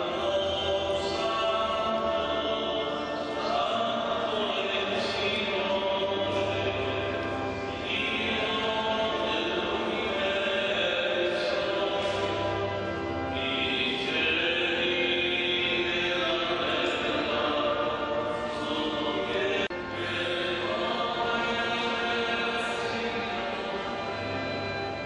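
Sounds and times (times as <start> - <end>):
liturgical chanting in echoing church: 0.0 - 25.0.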